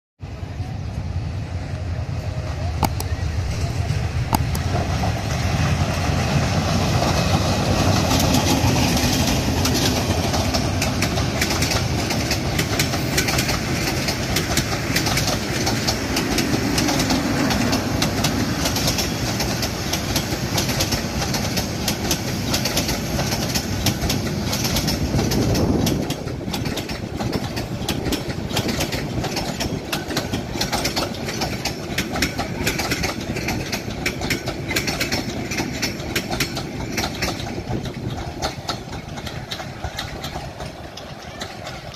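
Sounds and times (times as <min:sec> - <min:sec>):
locomotive engine rumble: 0:00.2 - 0:41.9
wheels clattering over rail joints: 0:02.9 - 0:41.9.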